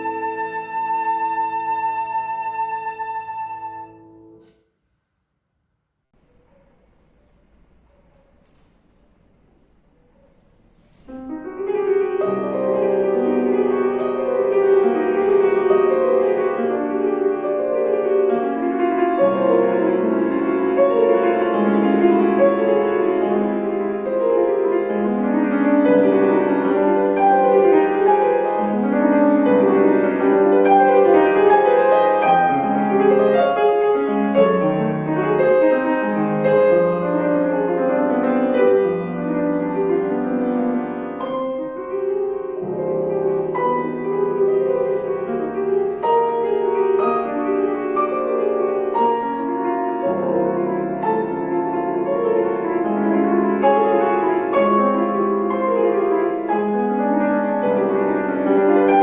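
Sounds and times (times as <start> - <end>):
classical piano piece: 0.0 - 4.7, 6.2 - 59.0.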